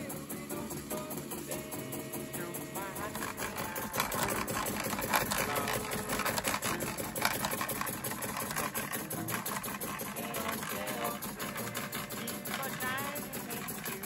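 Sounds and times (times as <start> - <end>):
toy punch press clattering: 0.0 - 14.0
toy steam engine running: 0.0 - 14.0.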